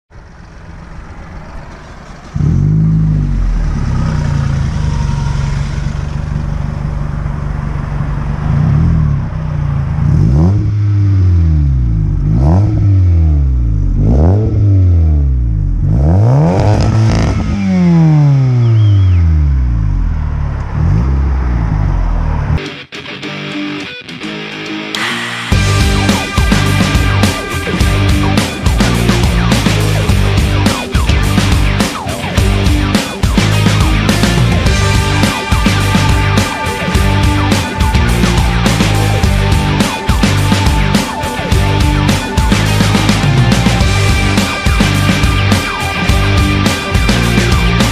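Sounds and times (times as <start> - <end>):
car engine starting and revving: 0.1 - 22.6, 25.0 - 47.9.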